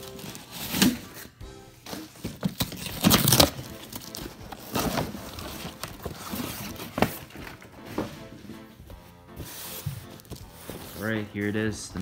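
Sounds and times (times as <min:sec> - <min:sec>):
cardboard ripping and crinkling: 0:00.0 - 0:08.1, 0:09.5 - 0:11.3.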